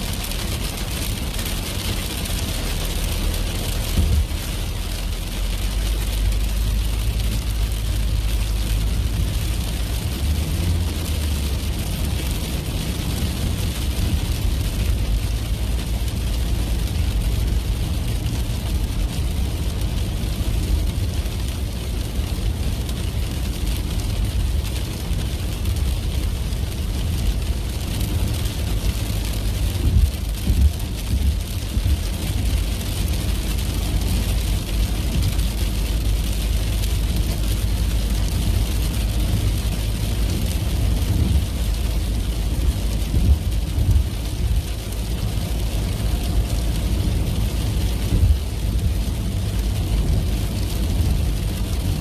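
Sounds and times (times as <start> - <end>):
car engine and tyre rumble: 0.0 - 52.0
rain on windscreen: 0.0 - 52.0.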